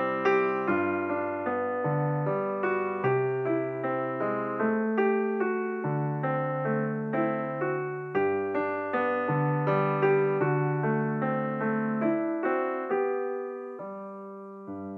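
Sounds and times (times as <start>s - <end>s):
electric piano music: 0.0s - 14.9s.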